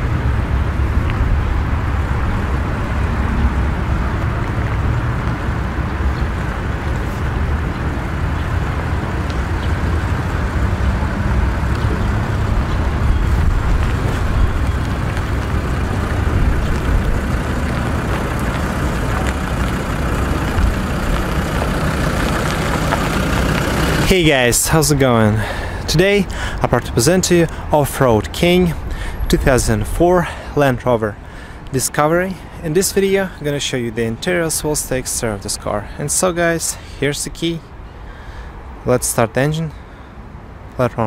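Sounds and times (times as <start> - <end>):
motor vehicle low rumble: 0.0 - 38.9.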